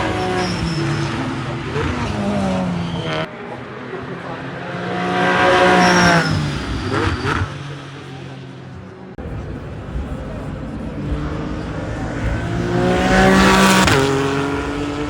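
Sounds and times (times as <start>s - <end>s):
racing cars passing by: 0.0s - 15.0s.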